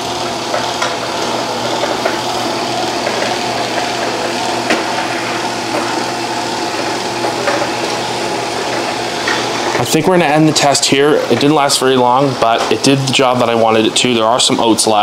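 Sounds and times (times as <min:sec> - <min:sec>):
robot vacuum whirring: 0:00.0 - 0:13.9.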